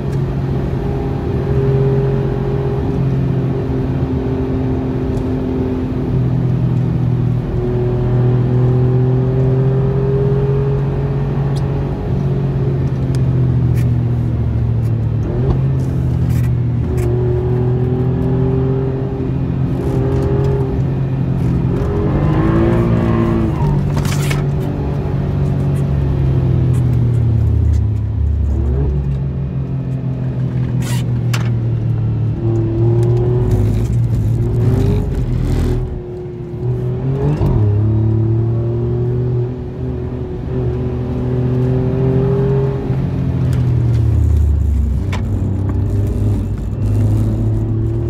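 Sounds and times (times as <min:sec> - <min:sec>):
car engine from inside cabin: 0:00.0 - 0:48.0.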